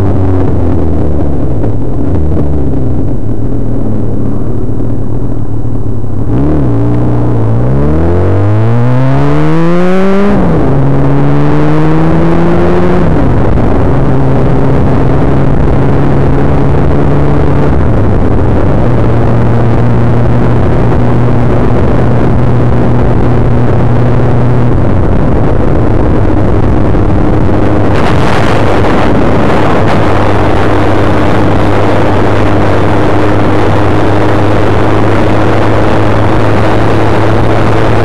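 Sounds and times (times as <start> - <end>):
motorcycle engine revving: 0.0 - 38.0
wind rushing: 0.0 - 38.0.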